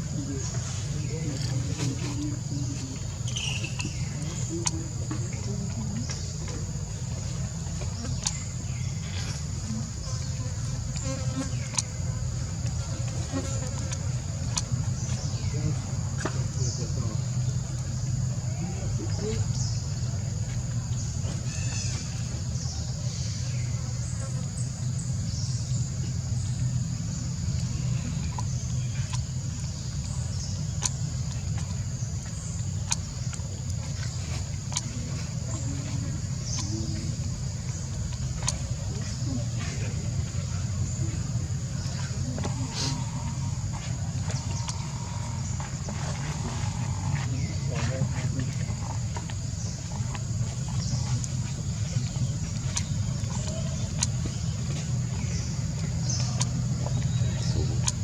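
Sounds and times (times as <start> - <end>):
low steady rumble: 0.0 - 58.0.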